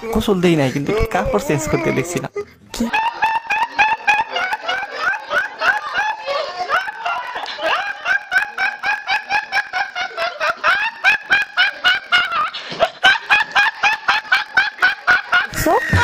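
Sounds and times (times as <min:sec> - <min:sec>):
boy laughing hysterically: 0:00.0 - 0:16.0.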